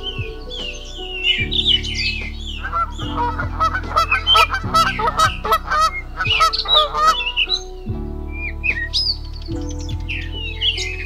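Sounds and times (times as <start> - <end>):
birds chirping: 0.0 - 11.0
slow low chords music: 0.0 - 11.0.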